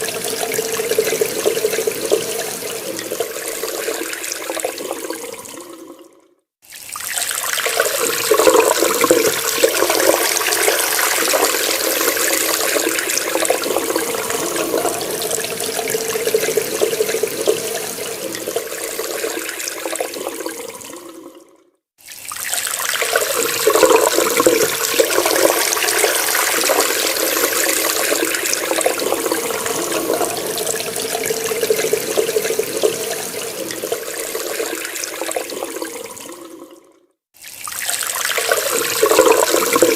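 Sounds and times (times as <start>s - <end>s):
water running from a tap: 0.0s - 21.3s, 22.0s - 36.8s, 37.4s - 39.9s.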